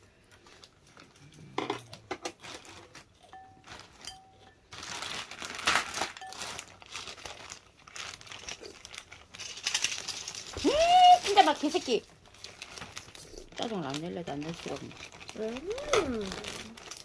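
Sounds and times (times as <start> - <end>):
crinkling and rustling: 0.1 - 17.0.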